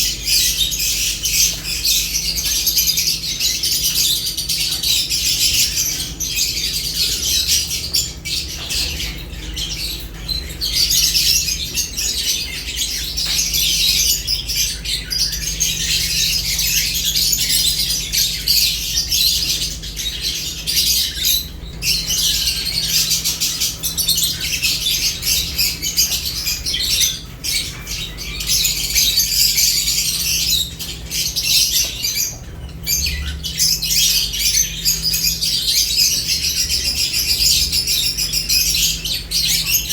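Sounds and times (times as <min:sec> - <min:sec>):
lovebirds chirping and chattering: 0:00.0 - 0:39.9.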